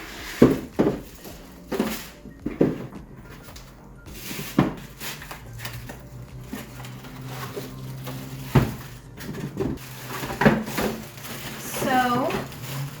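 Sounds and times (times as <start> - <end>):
box and packaging rustling: 0.0 - 13.0.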